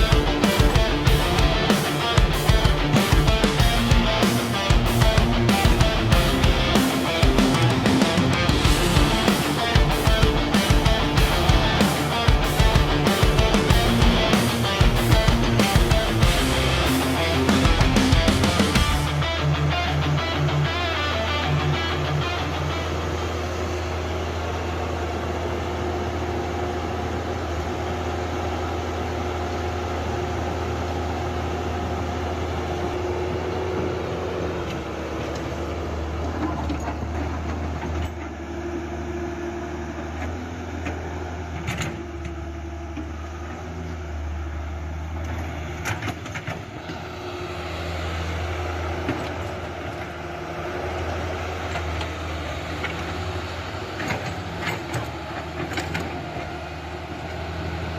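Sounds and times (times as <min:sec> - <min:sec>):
excavator engine humming: 0:00.0 - 0:57.9.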